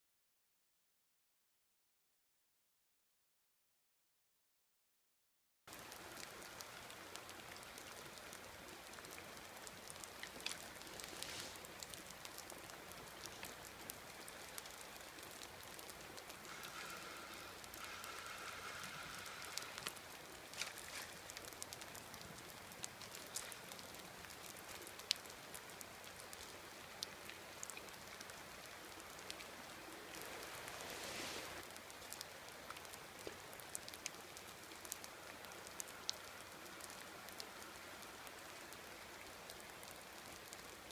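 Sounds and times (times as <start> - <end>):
close raindrops clicking: 5.7 - 40.9
rain falling: 5.7 - 40.9.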